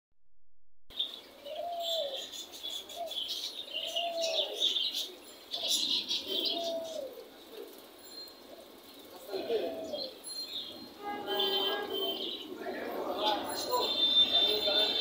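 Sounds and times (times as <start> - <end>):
birds chirping and twittering: 0.9 - 15.0
low cooing bird call: 1.0 - 10.8, 11.4 - 14.2.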